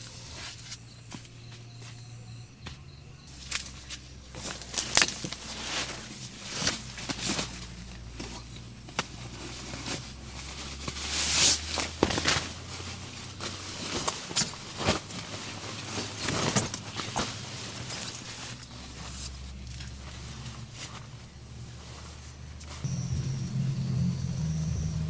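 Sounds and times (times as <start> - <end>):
faint low hum: 0.0 - 25.0
rustling and clicks of handling: 2.6 - 22.9.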